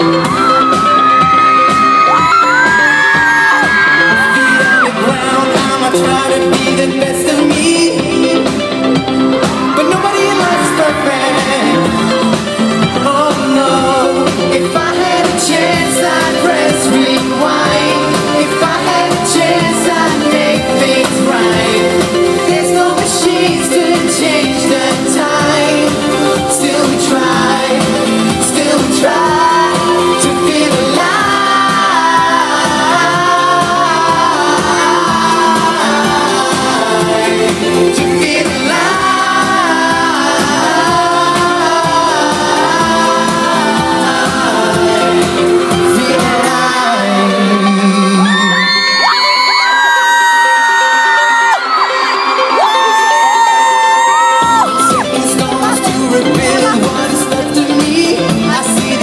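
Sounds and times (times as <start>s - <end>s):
live pop band: 0.0s - 59.0s
man singing into microphone: 2.0s - 8.8s, 9.7s - 50.6s, 52.6s - 59.0s.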